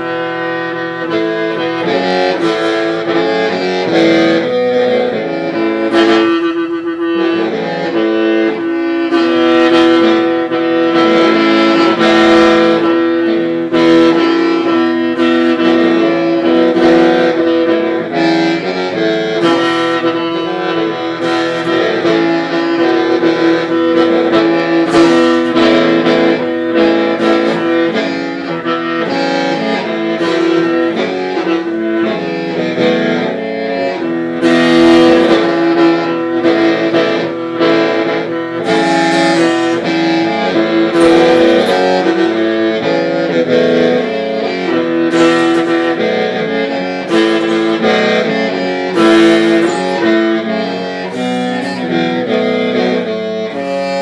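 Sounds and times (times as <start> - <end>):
bamboo mouth organ playing: 0.0 - 54.0.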